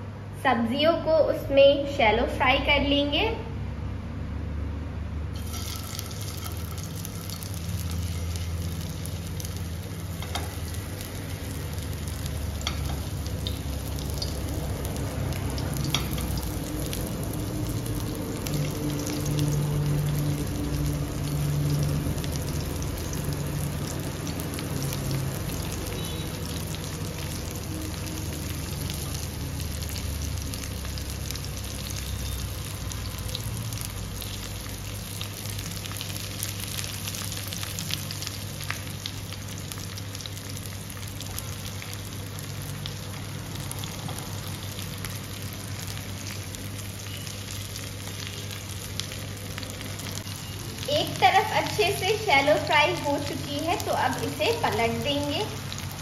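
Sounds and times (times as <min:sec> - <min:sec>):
food sizzling in oil: 0:05.3 - 0:56.0
oil spattering crackles: 0:05.4 - 0:56.0.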